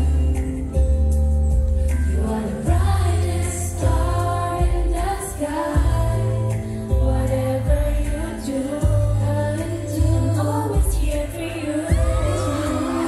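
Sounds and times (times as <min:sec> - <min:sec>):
bass line: 0:00.0 - 0:13.0
pop song with singing: 0:00.0 - 0:13.0.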